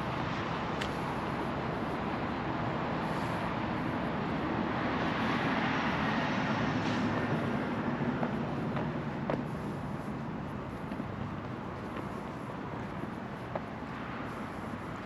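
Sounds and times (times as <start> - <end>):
roadside traffic rumble: 0.0 - 15.0.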